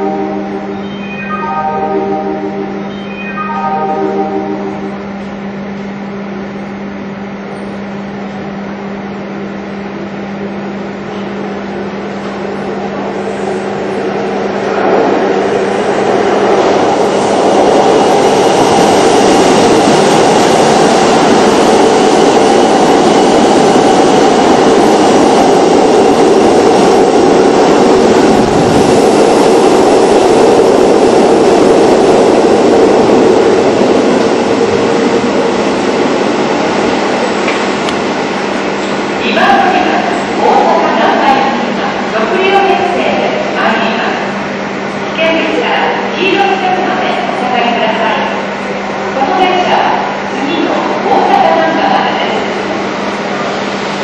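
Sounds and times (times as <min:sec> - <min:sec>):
train roaring through station: 0:00.0 - 0:54.0.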